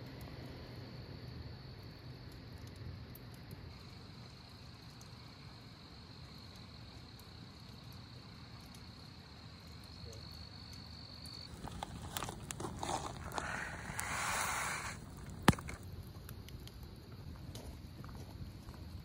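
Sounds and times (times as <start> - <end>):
faint low hiss: 0.0 - 19.0
crickets trilling: 0.4 - 19.0.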